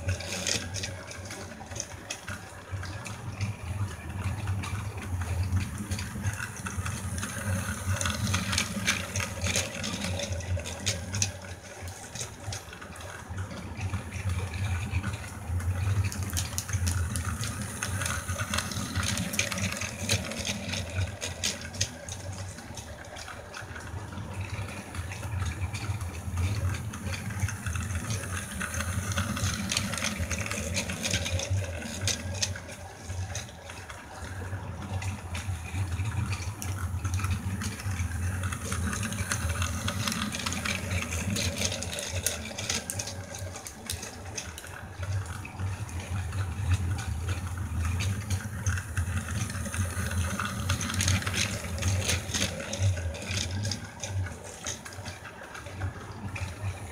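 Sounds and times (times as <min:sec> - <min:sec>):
toy train motor whirring: 0:00.0 - 0:56.9
toy train wheels rattling on track: 0:00.0 - 0:56.9.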